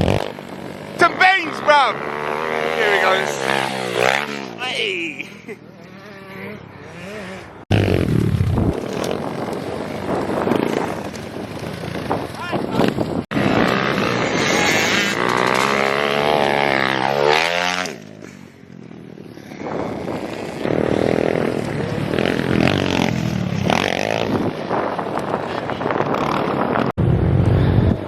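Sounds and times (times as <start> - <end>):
motorbike engine revving: 0.0 - 4.9, 5.5 - 28.0.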